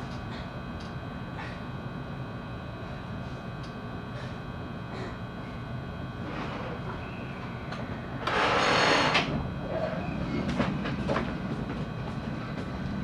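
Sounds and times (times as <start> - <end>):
train equipment hum: 0.0 - 13.0.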